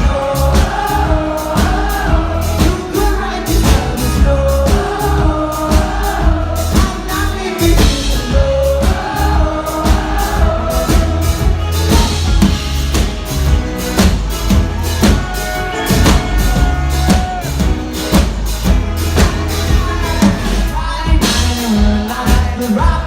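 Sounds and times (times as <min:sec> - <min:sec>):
heavy bass line: 0:00.0 - 0:23.0
kick and snare drum beat: 0:00.0 - 0:23.0
live pop-rock band playing: 0:00.0 - 0:23.0.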